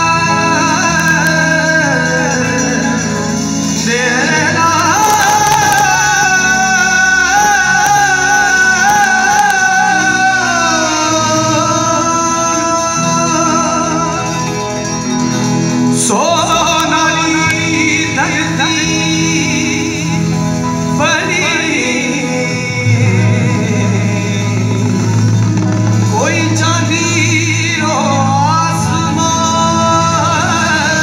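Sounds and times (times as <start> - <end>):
live rock band: 0.0 - 31.0
male singer: 0.0 - 31.0.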